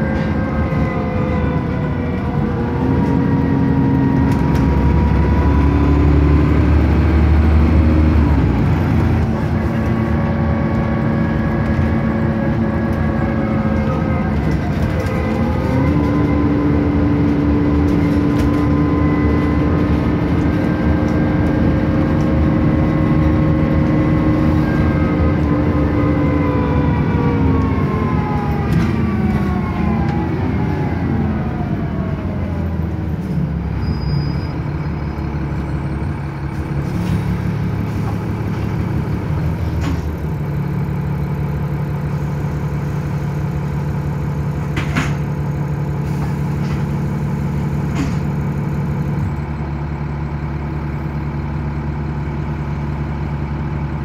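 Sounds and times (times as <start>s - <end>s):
bus engine slowing: 0.0s - 54.0s.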